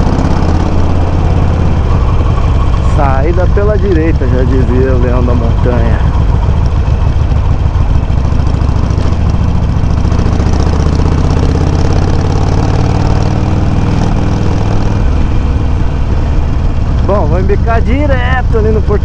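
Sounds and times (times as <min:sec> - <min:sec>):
motorcycle exhaust rumble: 0:00.0 - 0:19.0.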